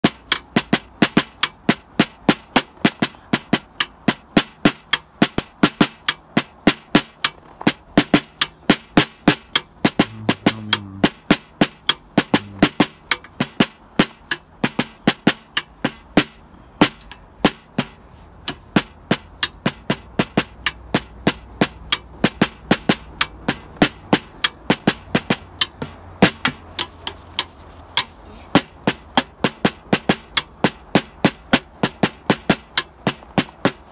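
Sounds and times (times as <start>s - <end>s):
snare drum beaten with drumsticks: 0.0s - 33.9s.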